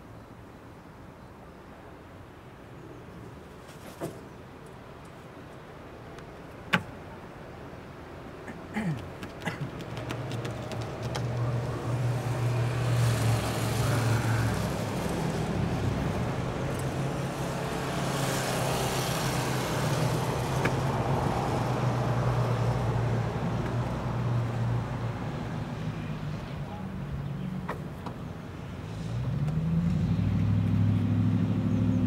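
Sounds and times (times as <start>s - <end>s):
road traffic drone: 0.0s - 32.0s
vehicles passing by: 0.0s - 32.0s.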